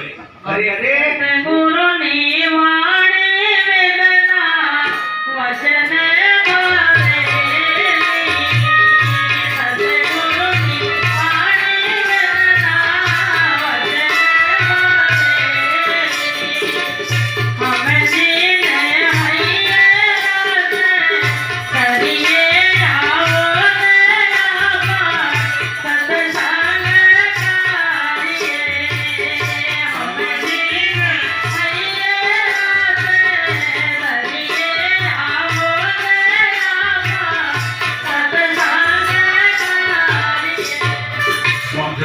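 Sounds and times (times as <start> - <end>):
devotional song melody: 0.0 - 42.0
tabla beat: 0.0 - 42.0.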